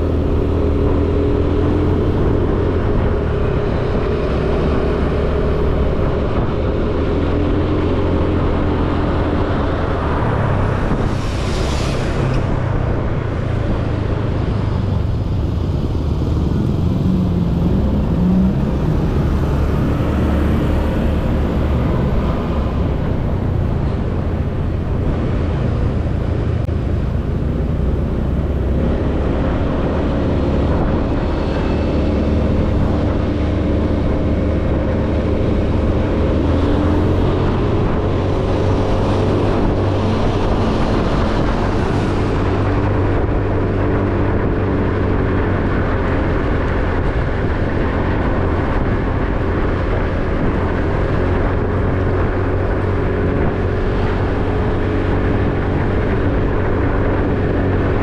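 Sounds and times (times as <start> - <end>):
road rumble: 0.0 - 58.0
wind noise: 0.0 - 58.0.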